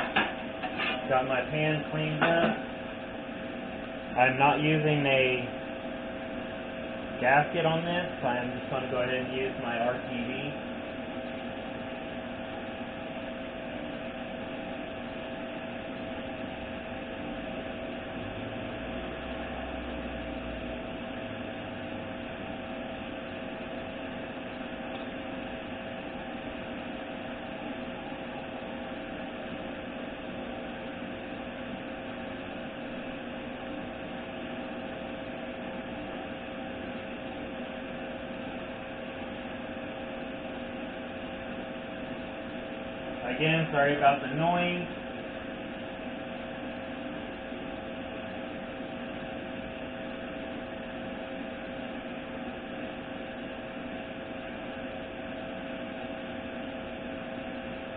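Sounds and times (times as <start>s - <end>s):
steady machine drone: 0.0s - 57.9s.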